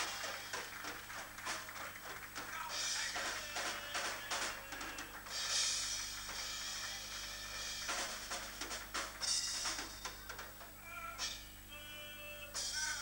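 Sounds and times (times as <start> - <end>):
drum hits and cymbal crashes: 0.0 - 11.6
live band music: 0.0 - 13.0.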